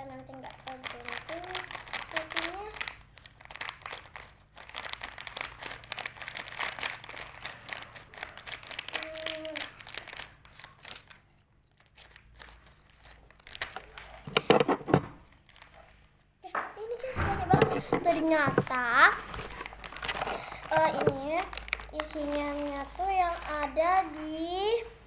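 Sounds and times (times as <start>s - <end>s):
plastic wrapper crinkling: 0.1s - 16.2s, 16.8s - 24.9s.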